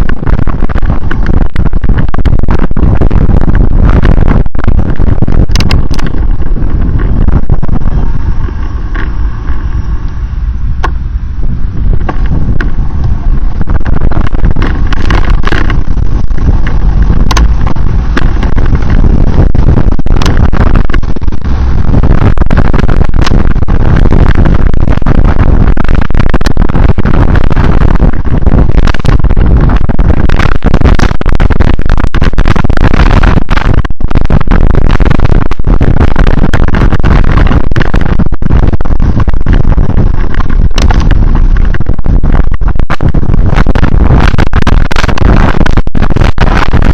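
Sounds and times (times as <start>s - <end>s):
vehicle road noise: 0.0s - 46.9s
wind buffeting microphone: 0.0s - 46.9s.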